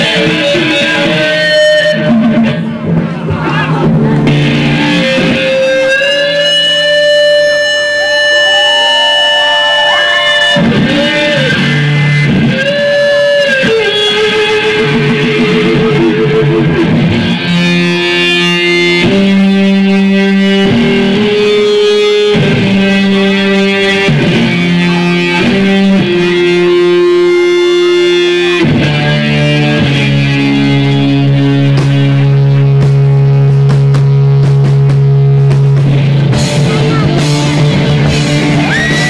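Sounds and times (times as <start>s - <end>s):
electric guitar through effects: 0.0s - 39.0s
instrumental rock music: 0.0s - 39.0s.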